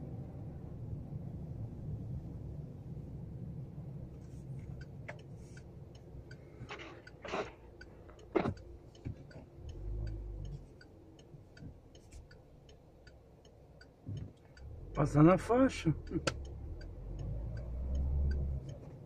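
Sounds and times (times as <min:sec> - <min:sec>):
car engine rumble: 0:00.0 - 0:19.0
turn signal ticking: 0:01.6 - 0:19.0.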